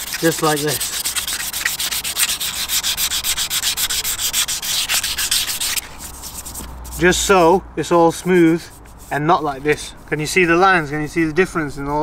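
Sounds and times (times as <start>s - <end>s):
sandpaper rubbing on metal: 0.0s - 12.0s.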